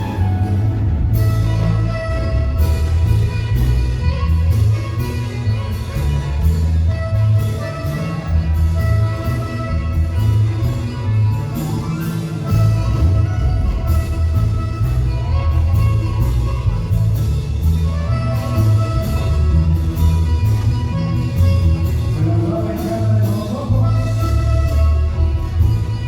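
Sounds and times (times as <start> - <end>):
heavy bass: 0.0 - 26.0
live latin band music: 0.0 - 26.0
steady drum beat: 0.0 - 26.0.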